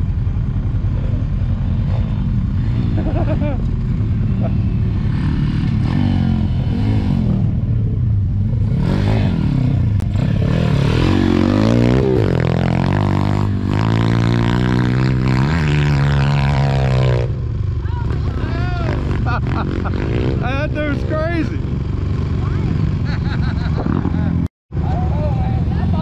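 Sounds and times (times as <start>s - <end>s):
motorbike engine revving: 1.6s - 24.5s.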